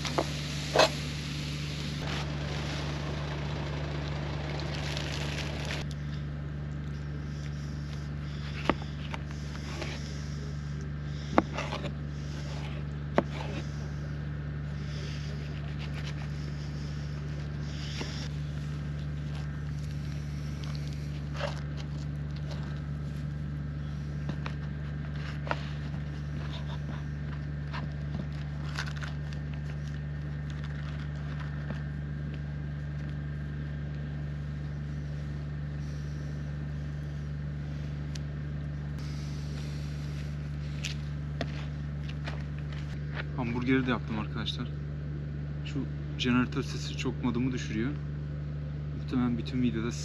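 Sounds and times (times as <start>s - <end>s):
generator humming: 0.0s - 50.0s.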